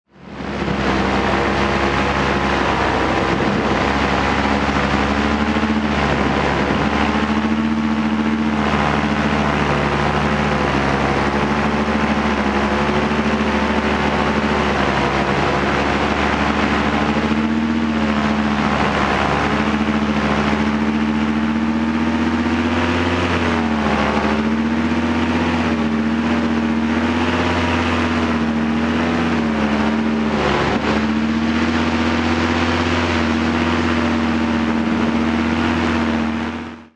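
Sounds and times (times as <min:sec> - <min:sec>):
paramotor engine and propeller: 0:00.0 - 0:36.9.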